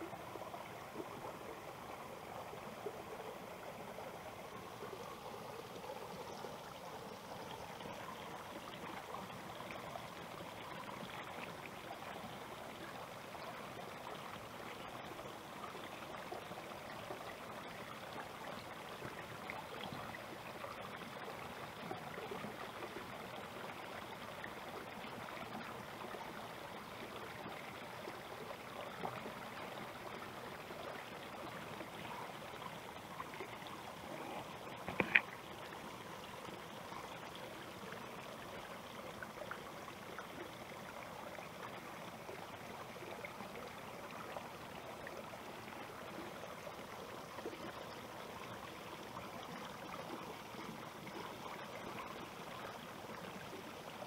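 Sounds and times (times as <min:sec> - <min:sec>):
stream trickling and splashing: 0:00.0 - 0:54.0.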